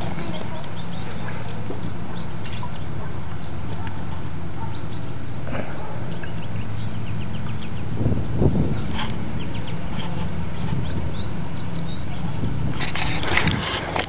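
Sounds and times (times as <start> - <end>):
birds chirping: 0.0 - 14.0
low rumble: 0.0 - 14.0.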